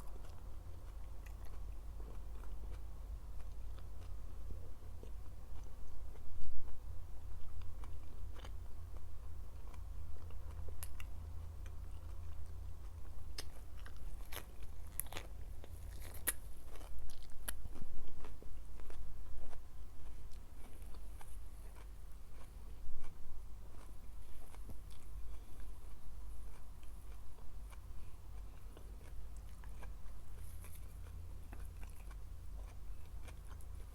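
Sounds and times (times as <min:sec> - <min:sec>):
biting and chewing: 0:00.0 - 0:33.9.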